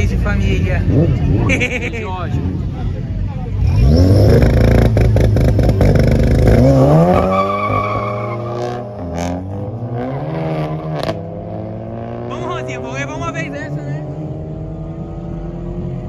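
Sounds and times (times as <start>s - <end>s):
car engine revving and accelerating: 0.2s - 2.8s, 3.4s - 16.0s.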